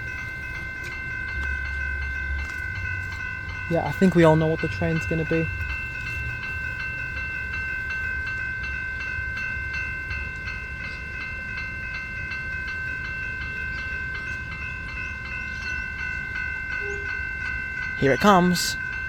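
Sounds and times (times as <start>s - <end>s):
level-crossing bells ringing: 0.0s - 19.0s.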